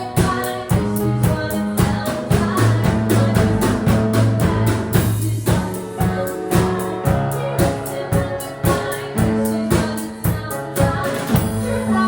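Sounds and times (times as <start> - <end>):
live band playing: 0.0 - 12.0
person singing: 0.0 - 12.0
drum beat: 0.2 - 11.6.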